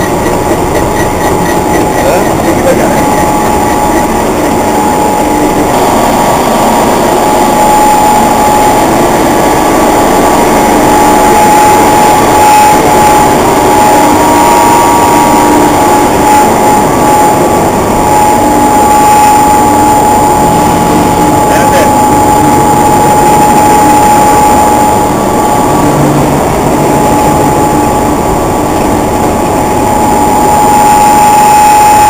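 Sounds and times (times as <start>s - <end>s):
machinery mechanical din: 0.0s - 32.0s
steady machine whine: 0.0s - 32.0s.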